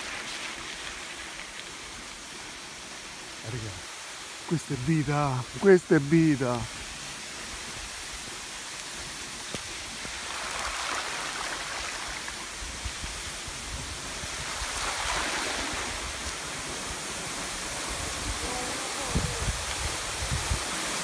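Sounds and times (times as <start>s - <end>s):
stream water rushing over rocks: 0.0s - 21.0s.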